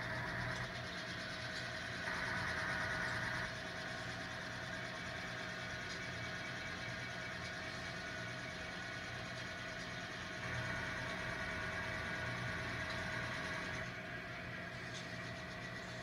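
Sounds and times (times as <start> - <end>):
diesel engine running sound: 0.0 - 16.0.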